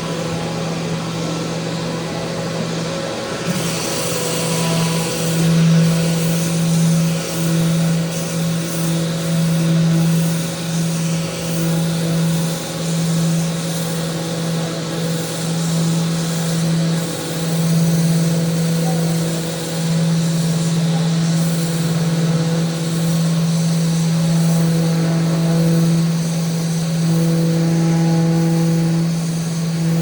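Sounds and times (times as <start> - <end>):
electric sander on wood: 0.0 - 30.0.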